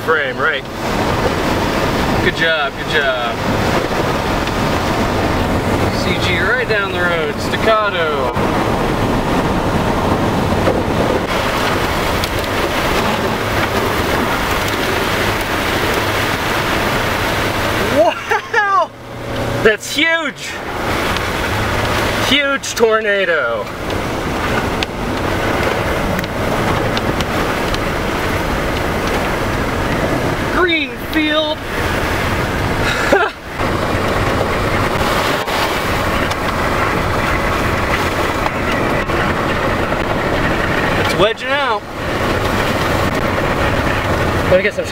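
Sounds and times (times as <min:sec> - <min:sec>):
heavy rain and wind: 0:00.0 - 0:44.9
raindrops ticking close by: 0:00.0 - 0:44.9.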